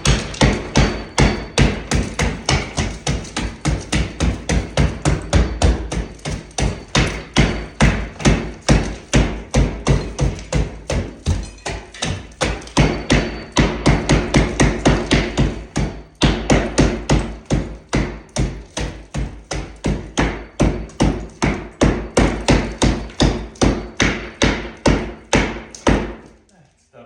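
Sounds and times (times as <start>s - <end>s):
hammer striking plaster wall: 0.0s - 26.4s.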